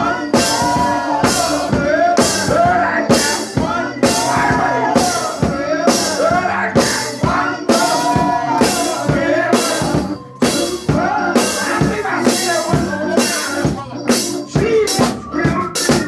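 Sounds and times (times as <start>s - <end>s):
drum kit beat: 0.0s - 16.0s
man singing into microphone: 0.0s - 16.0s.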